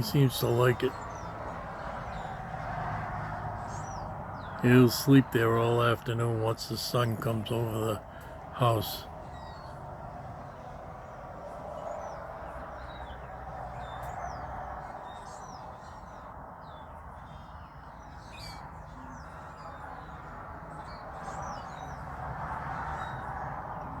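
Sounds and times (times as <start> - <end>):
outdoor background rush: 0.0 - 24.0
songbirds chirping: 0.0 - 24.0.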